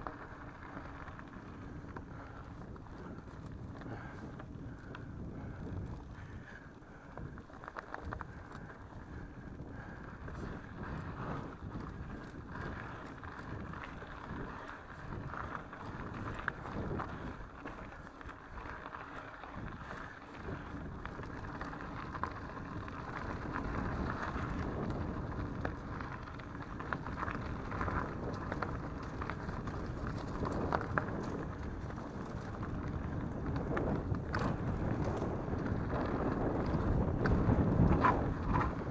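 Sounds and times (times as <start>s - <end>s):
bike clicks and rattles: 0.0s - 38.9s
bike tyres rushing on dirt: 0.0s - 38.9s
wind on microphone: 0.0s - 38.9s.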